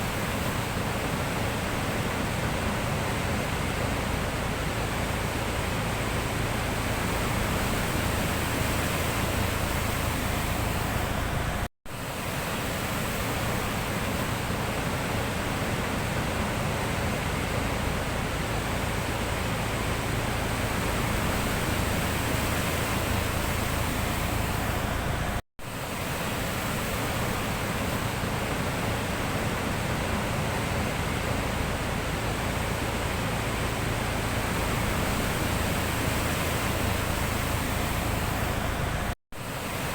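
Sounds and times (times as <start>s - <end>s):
sea surf rushing: 0.0s - 39.9s.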